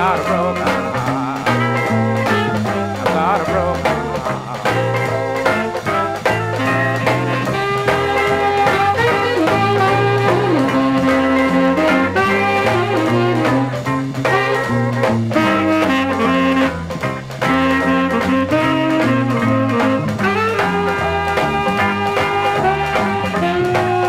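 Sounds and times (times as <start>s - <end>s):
rhythm and blues band instrumental: 0.0s - 24.0s.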